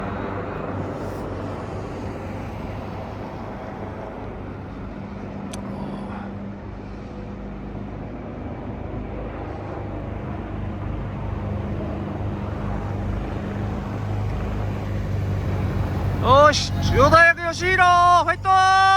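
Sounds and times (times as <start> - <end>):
vehicle engines humming: 0.0 - 18.9.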